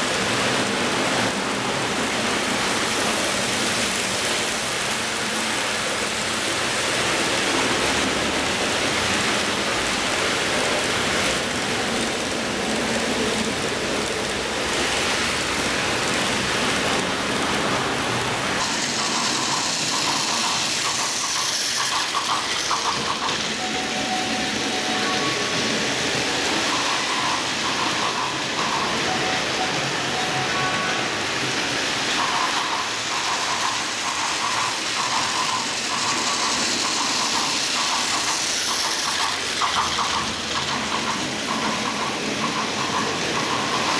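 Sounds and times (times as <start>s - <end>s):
model train wheels rumbling on rail: 0.0s - 43.9s.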